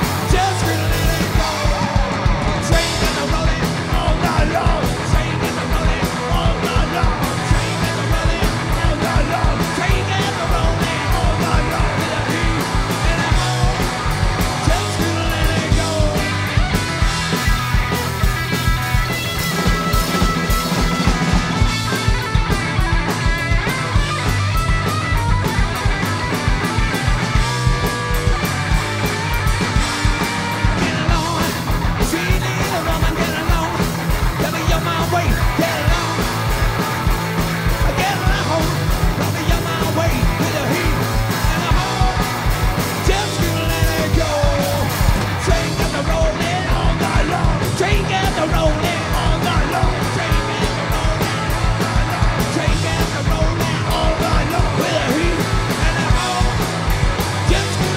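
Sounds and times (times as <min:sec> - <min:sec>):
bass guitar: 0:00.0 - 0:57.9
drum kit fast beat: 0:00.0 - 0:57.9
electric guitar: 0:00.0 - 0:57.9
man singing and shouting: 0:00.0 - 0:57.9.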